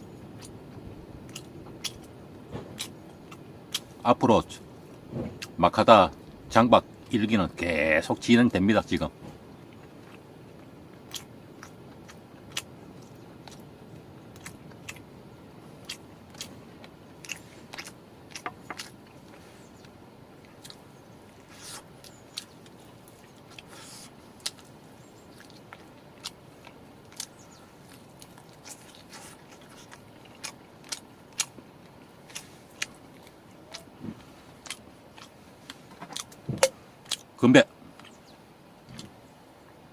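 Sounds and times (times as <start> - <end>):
biting and crunchy chewing: 0.0 - 6.4, 9.2 - 39.2
low background hum: 0.0 - 39.9.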